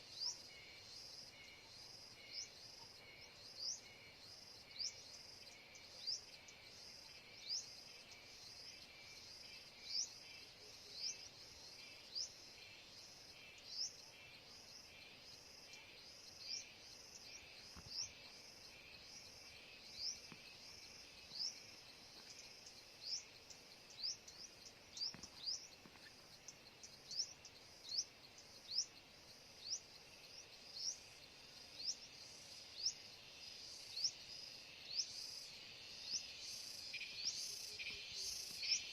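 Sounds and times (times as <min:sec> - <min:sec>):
bird chirping: 0:00.0 - 0:38.9
high insect hum: 0:00.0 - 0:38.9.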